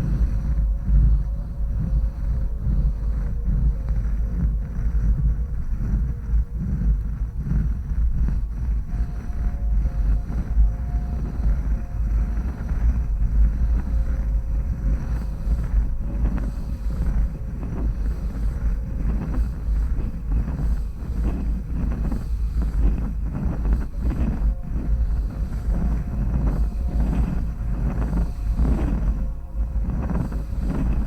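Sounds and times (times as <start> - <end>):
heavy low rumble: 0.0 - 31.0
scratching and rubbing at microphone: 0.0 - 31.0.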